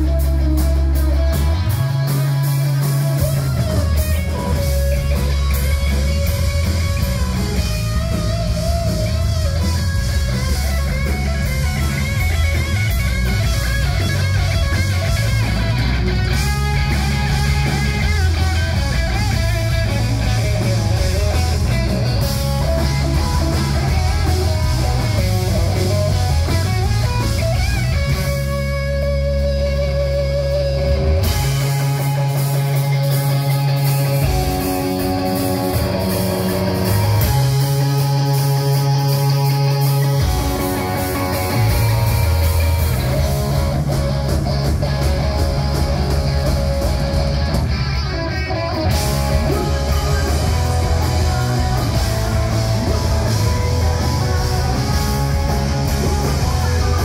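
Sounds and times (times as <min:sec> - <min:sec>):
electric guitar: 0:00.0 - 0:57.0
rock band playing live: 0:00.0 - 0:57.0.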